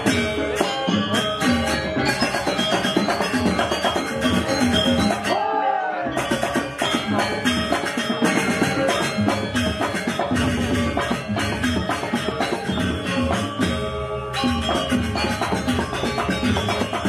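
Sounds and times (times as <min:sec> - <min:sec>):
gamelan music: 0:00.0 - 0:17.0.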